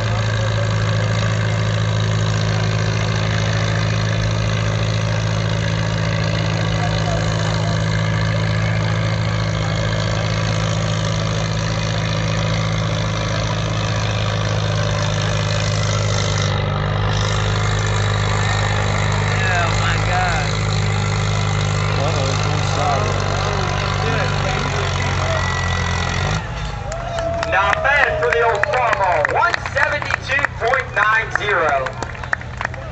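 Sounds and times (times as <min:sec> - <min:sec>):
tractor engine under load: 0:00.0 - 0:32.9.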